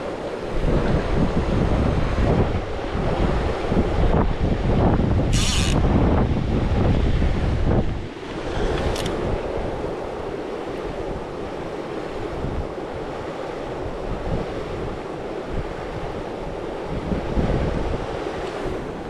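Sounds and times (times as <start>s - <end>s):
rushing river water: 0.0s - 19.0s
wind buffeting microphone: 0.0s - 19.0s.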